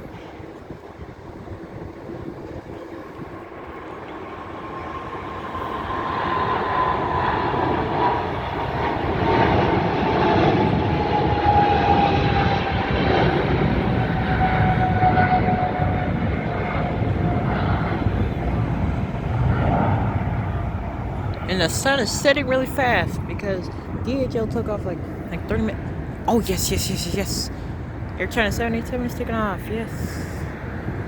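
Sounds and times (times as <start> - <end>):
jet engines roaring at takeoff: 0.0 - 31.0.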